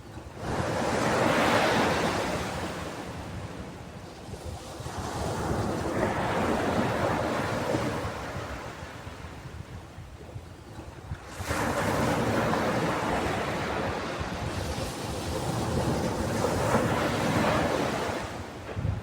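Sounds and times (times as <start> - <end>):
ocean waves breaking: 0.3 - 9.4, 11.2 - 19.0.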